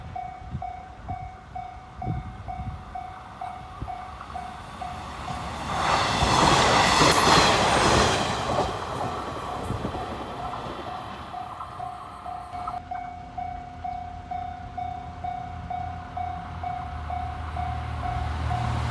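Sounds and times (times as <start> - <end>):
electric train rushing past: 1.1 - 12.8, 14.7 - 18.9.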